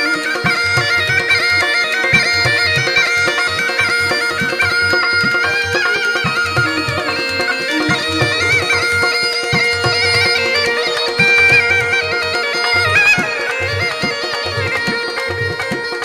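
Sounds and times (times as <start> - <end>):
reed pipe melody with drone: 0.0 - 16.0.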